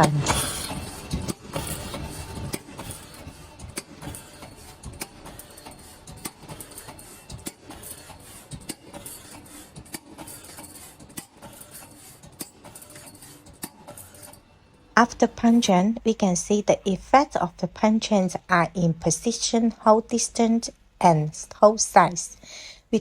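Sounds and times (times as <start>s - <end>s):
pipe punching machine running: 0.0s - 18.4s.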